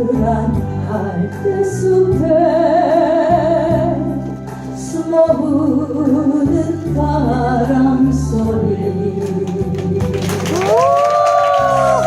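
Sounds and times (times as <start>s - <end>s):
person singing with vibrato: 0.0s - 10.0s
music backing track: 0.0s - 12.0s.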